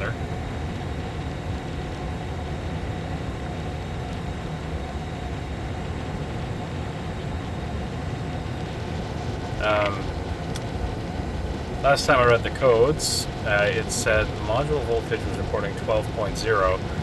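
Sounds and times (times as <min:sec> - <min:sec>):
faint constant tone: 0:00.0 - 0:17.0.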